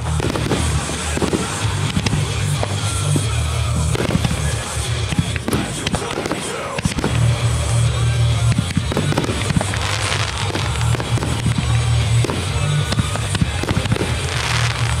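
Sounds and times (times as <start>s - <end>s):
fireworks bursting and crackling: 0.0s - 15.0s
music with low bass notes: 0.0s - 15.0s.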